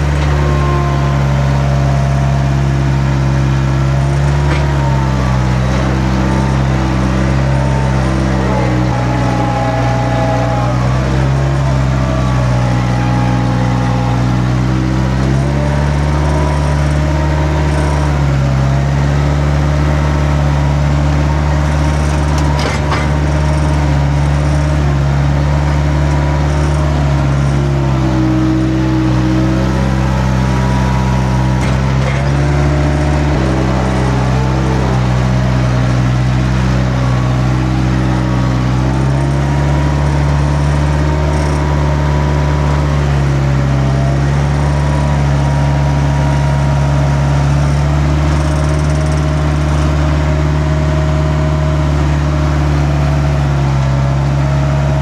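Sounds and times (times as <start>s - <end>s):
heavy engine running: 0.0s - 55.0s.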